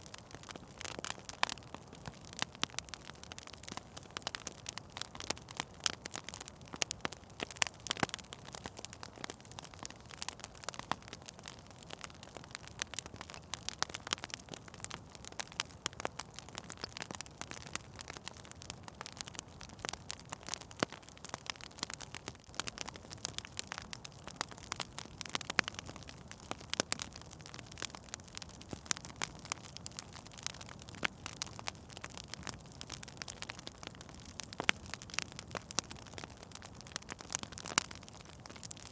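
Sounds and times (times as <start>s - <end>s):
fire crackling and popping: 0.0s - 38.9s
soft steady fire hiss: 0.0s - 38.9s.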